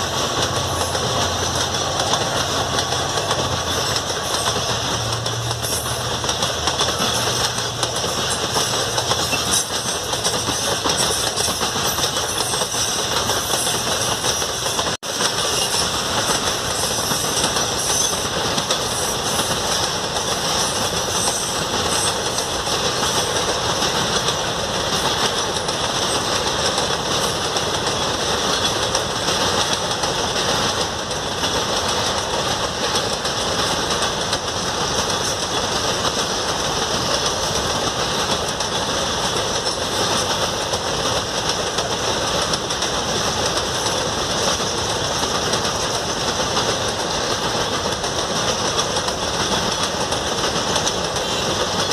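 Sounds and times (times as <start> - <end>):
train wheels on rails: 0.0 - 51.9.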